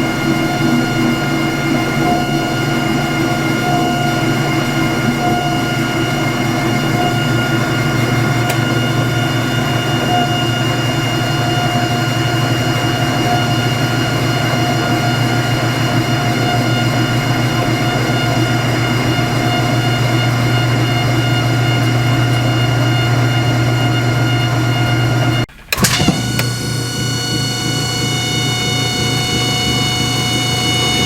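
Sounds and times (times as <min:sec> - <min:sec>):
washing machine high-pitched whine: 0:00.0 - 0:31.0
washing machine low hum: 0:00.0 - 0:31.0.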